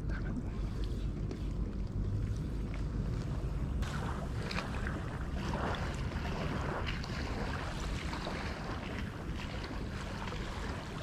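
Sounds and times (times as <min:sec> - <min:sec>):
wind rumbling on microphone: 0:00.0 - 0:11.0
water gently lapping: 0:00.3 - 0:11.0.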